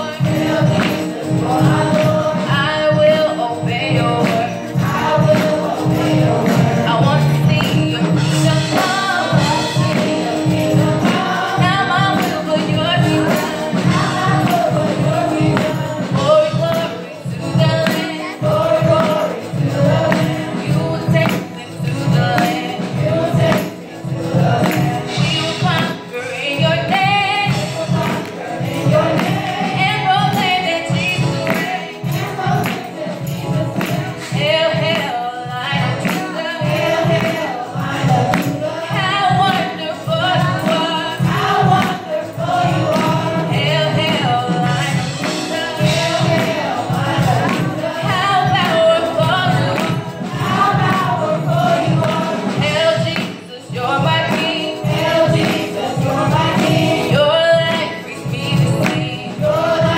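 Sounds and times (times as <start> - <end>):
choir singing: 0.0 - 16.0, 27.4 - 59.9
percussion beat: 0.0 - 59.9.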